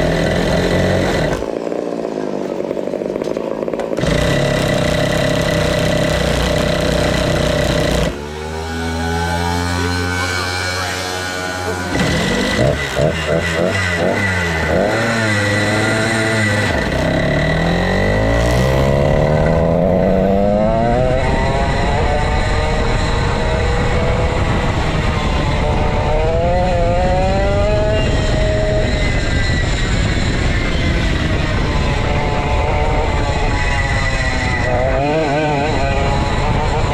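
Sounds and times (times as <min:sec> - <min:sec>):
go-kart engine revving: 0:00.0 - 0:36.9.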